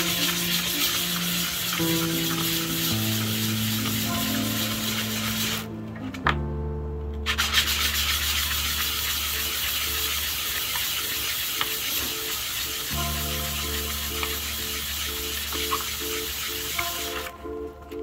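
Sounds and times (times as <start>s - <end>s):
metal rubbed on sandpaper: 0.0s - 5.7s, 7.3s - 17.3s
soft background music: 0.0s - 18.0s.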